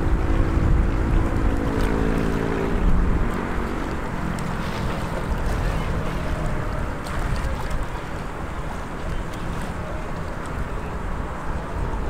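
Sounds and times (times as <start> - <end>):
faint boat motor hum: 0.0 - 12.0
wind buffeting microphone: 0.0 - 12.0.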